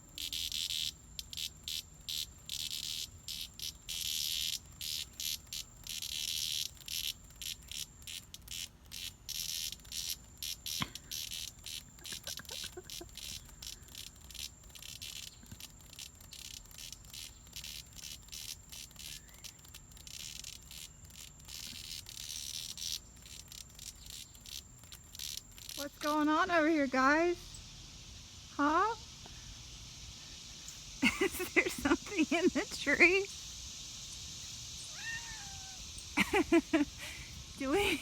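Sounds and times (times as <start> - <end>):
cicadas buzzing: 0.0 - 38.0.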